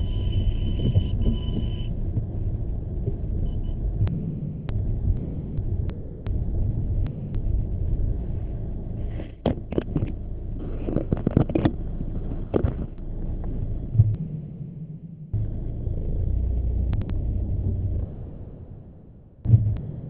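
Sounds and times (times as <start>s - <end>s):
low car rumble: 0.0s - 20.0s.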